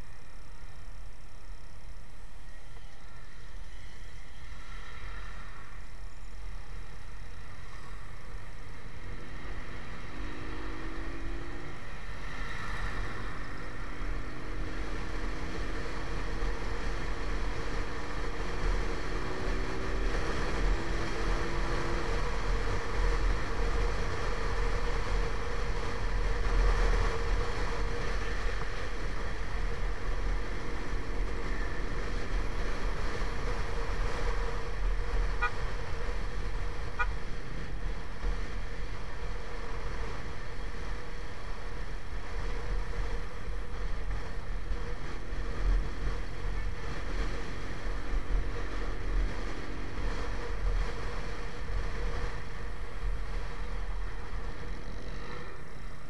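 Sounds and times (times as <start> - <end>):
wind rumble on microphone: 2.4 - 56.0
motorcycle engine accelerating: 7.4 - 56.0.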